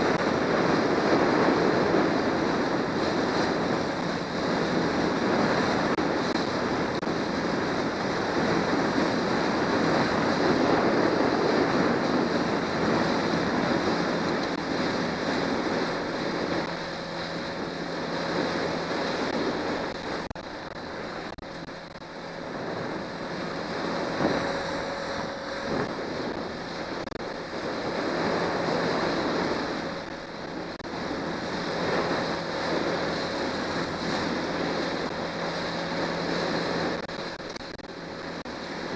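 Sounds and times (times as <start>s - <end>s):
outboard motor hum: 0.0s - 38.9s
water slapping against hull: 0.0s - 38.9s
wind buffeting microphone: 0.0s - 38.9s.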